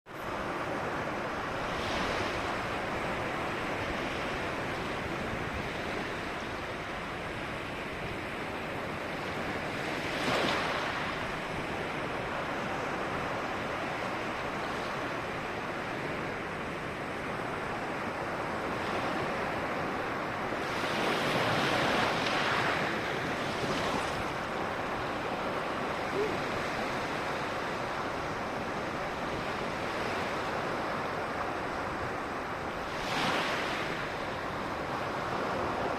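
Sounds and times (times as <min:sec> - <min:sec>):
ocean waves washing on beach: 0:00.1 - 0:35.9.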